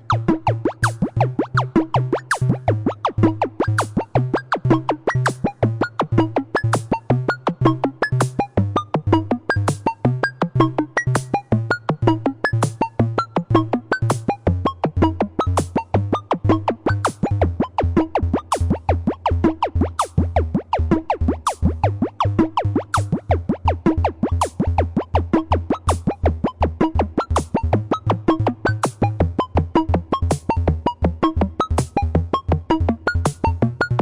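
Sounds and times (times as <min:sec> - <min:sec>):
playful electronic music: 0:00.0 - 0:34.0.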